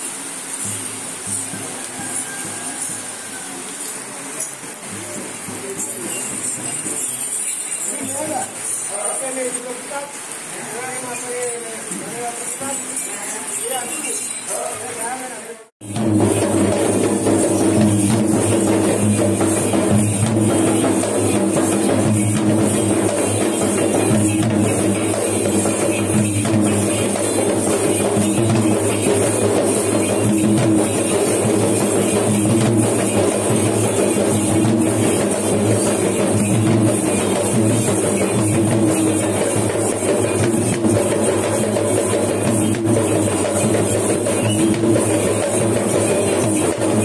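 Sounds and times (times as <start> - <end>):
fast ritual drumming: 0.2 - 47.0.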